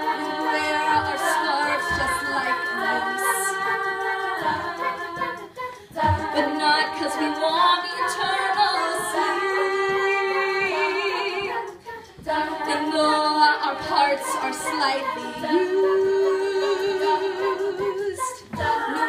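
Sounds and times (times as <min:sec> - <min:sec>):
female a cappella group singing: 0:00.0 - 0:19.0.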